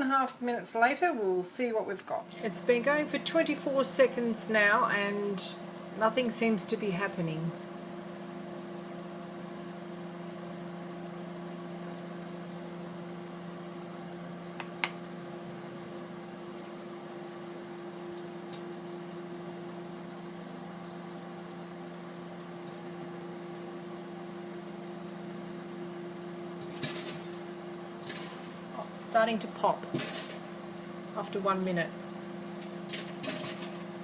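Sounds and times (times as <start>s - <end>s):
microwave oven humming: 0.0s - 34.0s.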